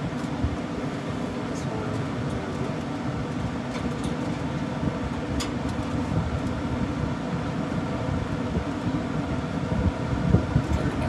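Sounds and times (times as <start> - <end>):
smoker low hum: 0.0 - 11.0.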